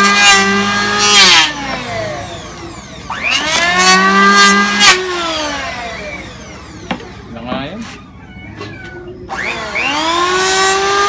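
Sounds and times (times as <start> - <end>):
rough cutting noise: 0.0 - 8.1, 8.7 - 11.0
power tool whining on wood: 0.0 - 11.0.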